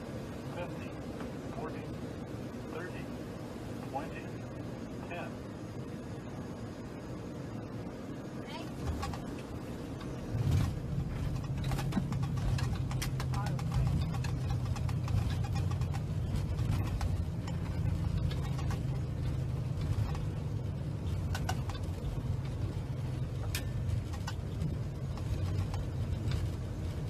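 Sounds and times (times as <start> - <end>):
airliner engine and airflow rumble: 0.0 - 27.0.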